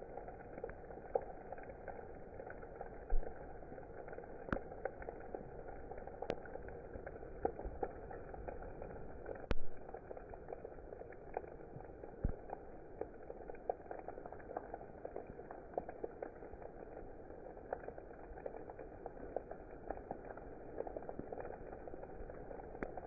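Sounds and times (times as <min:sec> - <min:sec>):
raindrops ticking: 0:00.0 - 0:23.0
steady rain: 0:00.0 - 0:23.0.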